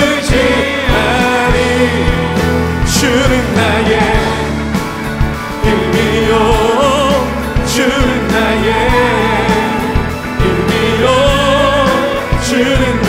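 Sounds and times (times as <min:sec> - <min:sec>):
acoustic guitar: 0:00.0 - 0:13.0
bass: 0:00.0 - 0:13.0
singers holding long notes: 0:00.0 - 0:13.0.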